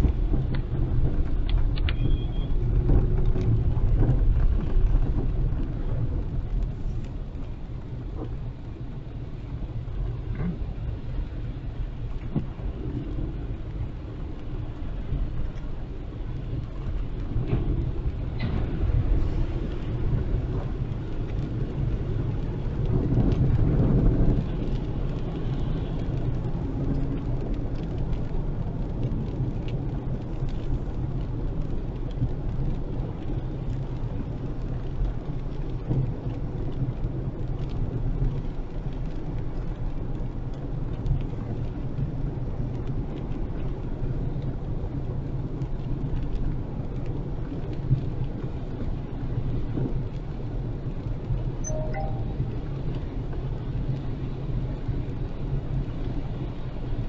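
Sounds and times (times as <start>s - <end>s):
heavy rain on a car: 0.0s - 57.0s
road and engine rumble: 0.0s - 57.0s.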